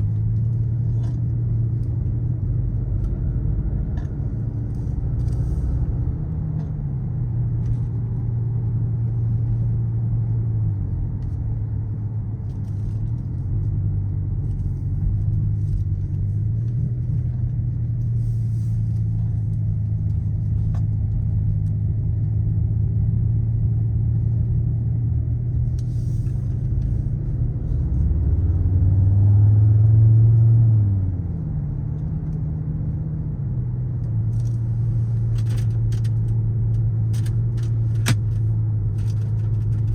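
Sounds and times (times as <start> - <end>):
car engine and exhaust: 0.0 - 39.9.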